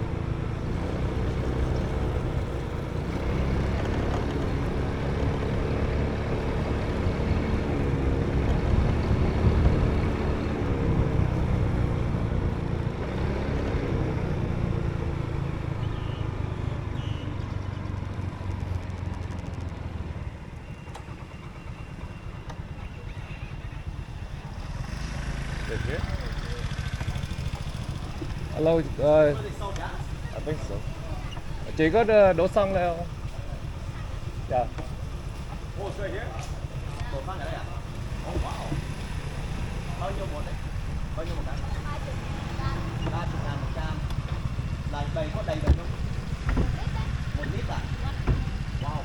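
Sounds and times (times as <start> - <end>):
motorbike engine running: 0.0 - 49.0
wind and road noise: 0.0 - 49.0.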